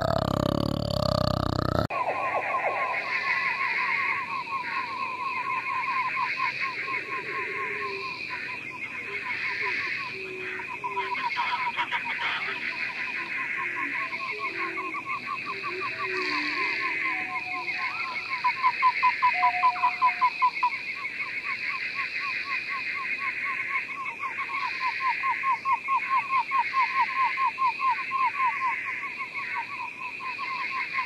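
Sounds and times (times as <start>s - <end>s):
frogs calling rapid notes: 0.0s - 31.0s
high-pitched frog chorus: 0.0s - 31.0s.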